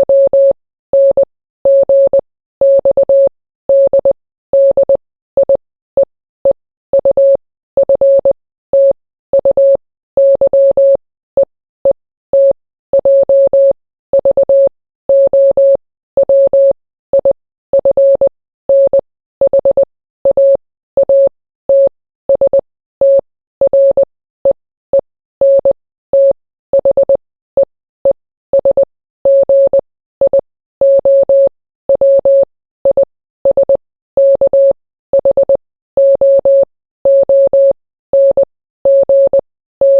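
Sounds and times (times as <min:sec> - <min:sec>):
morse code beeps: 0:00.0 - 0:11.5, 0:12.4 - 0:39.9.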